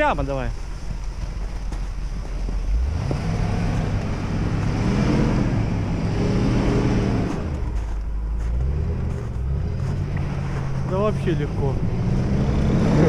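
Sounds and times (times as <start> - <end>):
car engine revving under load: 0.6 - 13.0.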